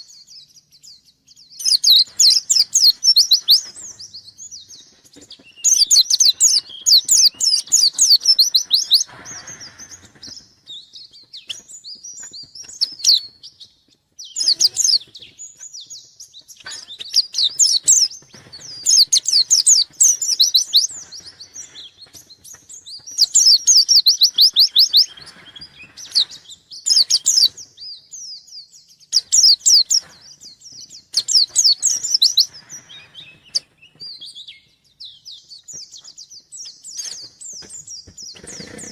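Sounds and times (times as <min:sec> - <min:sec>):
white-eye bird chattering song: 0:00.0 - 0:38.9.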